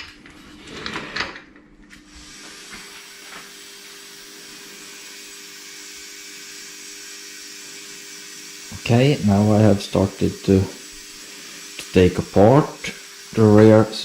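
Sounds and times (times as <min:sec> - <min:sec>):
machine hum with hiss: 0:02.0 - 0:14.0.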